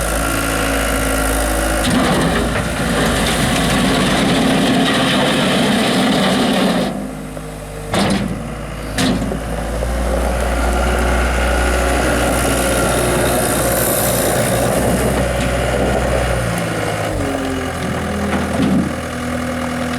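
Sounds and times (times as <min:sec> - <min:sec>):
diesel engine droning: 0:00.0 - 0:19.9.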